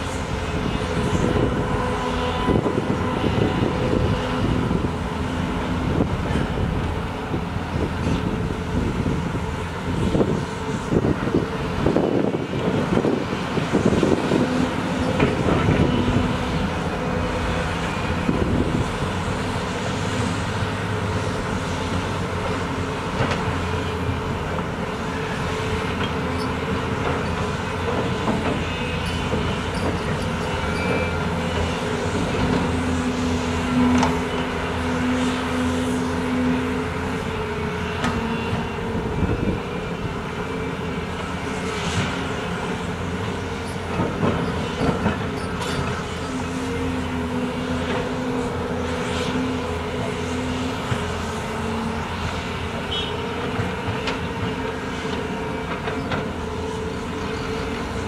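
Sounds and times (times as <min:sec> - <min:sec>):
diesel excavator engine: 0:00.0 - 0:58.0.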